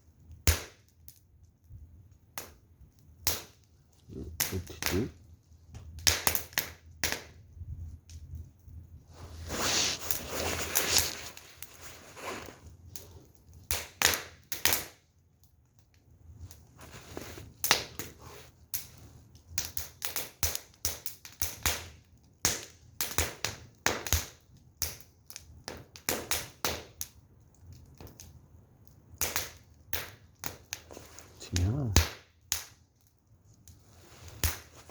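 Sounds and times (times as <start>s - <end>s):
firewood crackling and popping: 0.0s - 34.9s.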